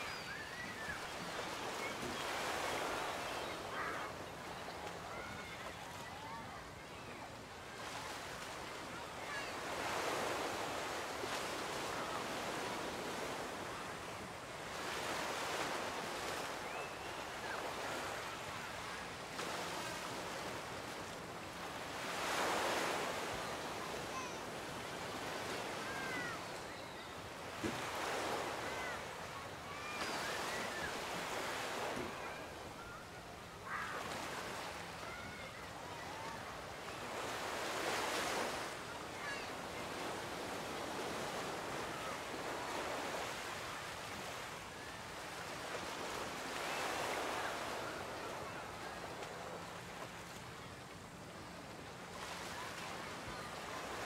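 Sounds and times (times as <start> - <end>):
ocean surf washing ashore: 0.0 - 54.0.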